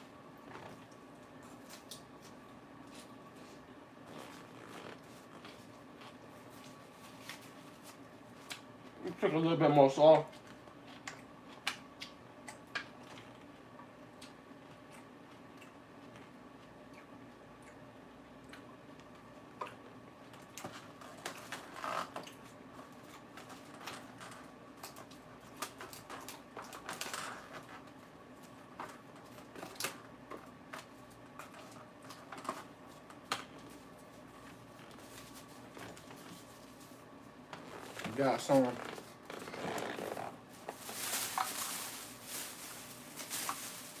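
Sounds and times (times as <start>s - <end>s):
lettuce being chewed: 0.4s - 9.0s, 10.3s - 37.9s.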